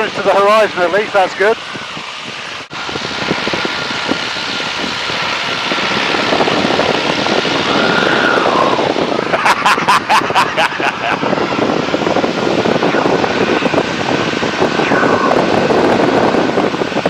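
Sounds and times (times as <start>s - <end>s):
propeller plane engine in flight: 0.0s - 17.0s
wind rush: 0.0s - 17.0s.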